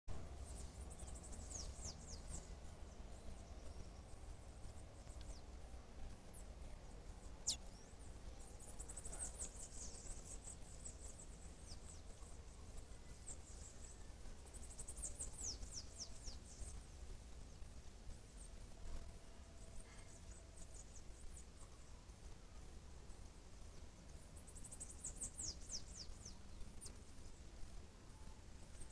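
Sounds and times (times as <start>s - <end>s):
low steady hum: 0.1s - 28.9s.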